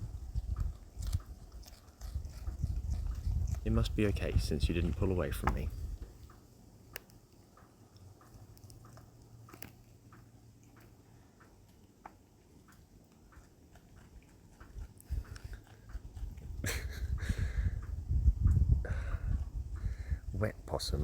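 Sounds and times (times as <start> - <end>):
animal chewing food: 0.0 - 19.6.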